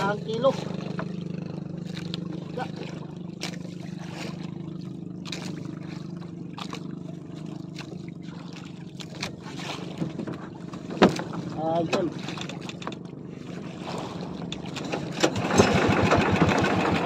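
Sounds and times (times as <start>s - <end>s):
low engine hum: 0.0s - 17.0s
water slapping against boat hull: 0.0s - 17.0s.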